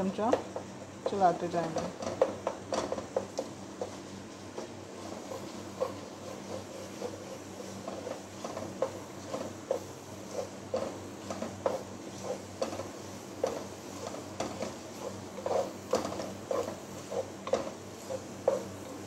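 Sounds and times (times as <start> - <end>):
wooden spoon scraping a pan: 1.0 - 19.0.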